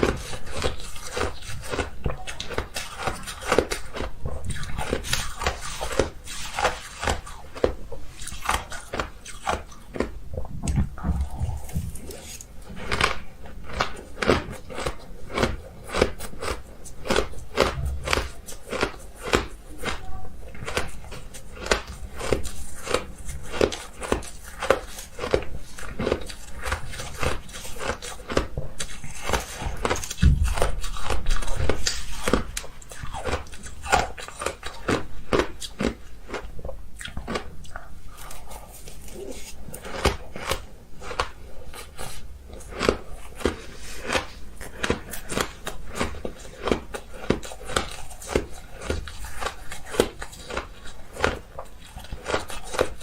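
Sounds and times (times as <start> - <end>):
ice crunching while chewed: 0.0 - 53.0.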